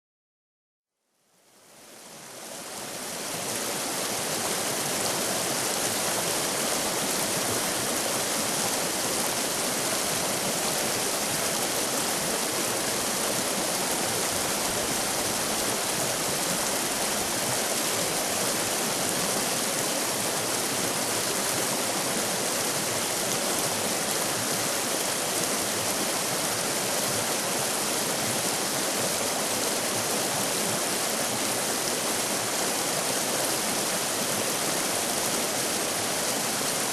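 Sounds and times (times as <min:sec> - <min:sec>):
water rushing over rocks: 0:02.5 - 0:36.9.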